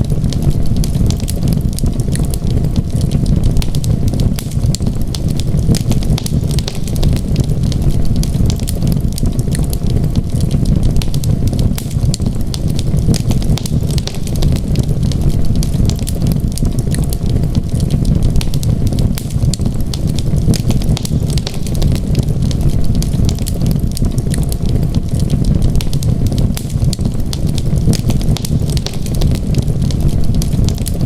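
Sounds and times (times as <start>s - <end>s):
fire crackling and popping: 0.0s - 31.0s
low rumble of flames: 0.0s - 31.0s.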